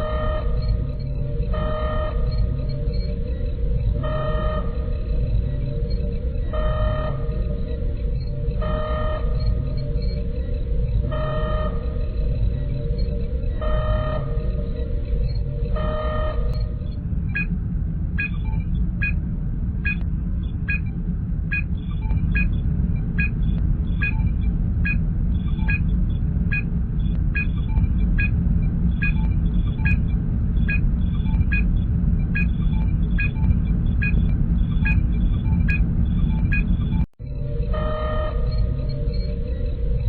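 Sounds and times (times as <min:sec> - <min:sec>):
electronic scan beep: 0:00.0 - 0:17.5, 0:21.5 - 0:26.7, 0:29.0 - 0:40.0
low engine rumble: 0:00.0 - 0:40.0.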